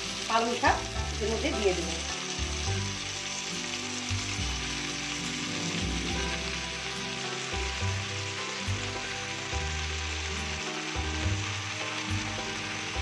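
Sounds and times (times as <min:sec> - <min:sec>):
soft background music: 0:00.0 - 0:13.0
spinach sizzling in oil: 0:00.0 - 0:13.0.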